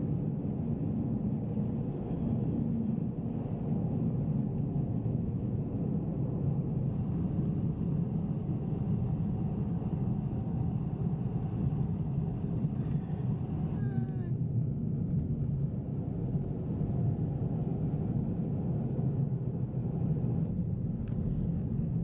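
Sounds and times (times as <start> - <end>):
car engine and tyre rumble: 0.1 - 22.0.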